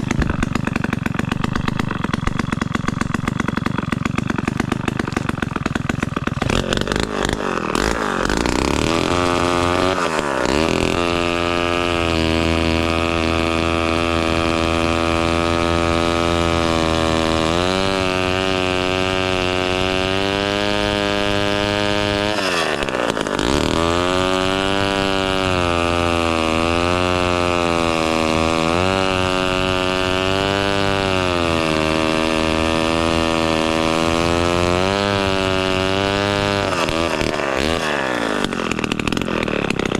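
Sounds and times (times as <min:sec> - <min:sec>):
chainsaw engine running fast: 0:00.0 - 0:39.9.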